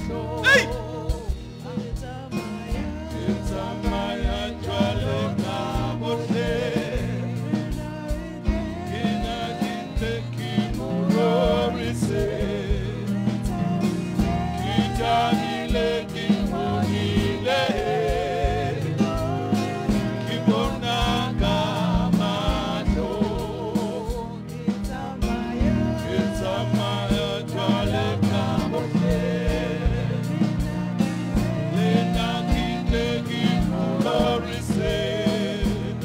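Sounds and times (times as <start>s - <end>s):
gospel band playing: 0.0s - 36.0s
person singing with vibrato: 0.0s - 36.0s.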